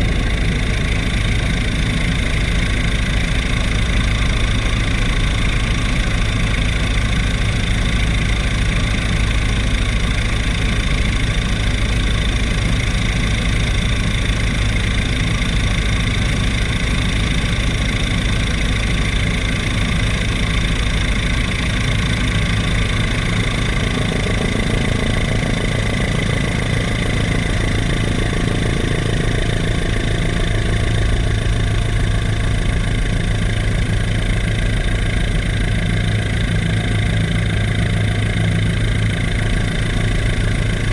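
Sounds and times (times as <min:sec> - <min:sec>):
helicopter engine and rotor drone: 0:00.0 - 0:40.9
helicopter whine: 0:00.0 - 0:40.9.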